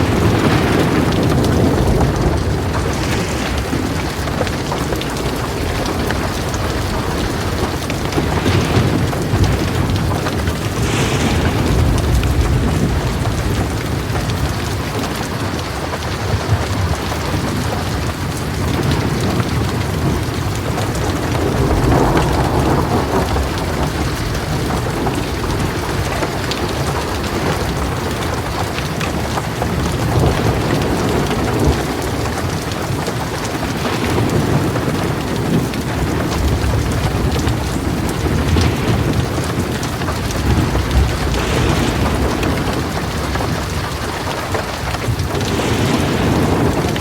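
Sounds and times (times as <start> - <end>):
distant rolling thunder: 0.0 - 47.0
heavy rain pouring: 0.0 - 47.0.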